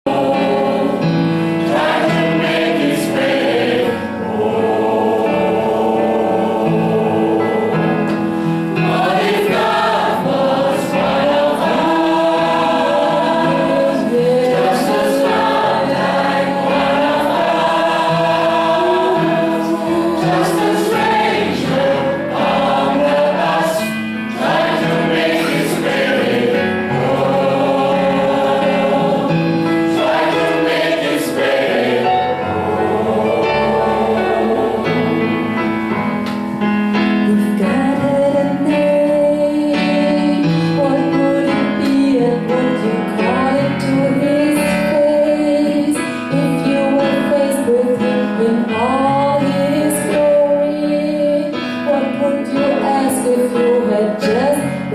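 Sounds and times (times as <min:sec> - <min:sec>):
choir singing gospel: 0:00.0 - 0:54.9.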